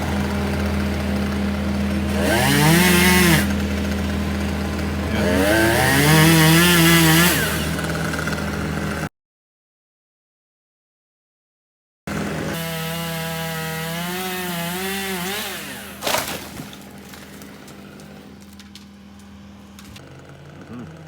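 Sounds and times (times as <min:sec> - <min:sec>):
chainsaw revving: 0:00.0 - 0:09.1, 0:12.1 - 0:21.0.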